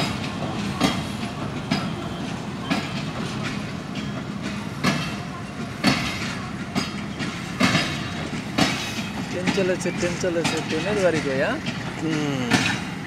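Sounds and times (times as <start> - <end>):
train rumble: 0.0 - 13.0
train wheels knocking over rail joints: 0.0 - 13.0.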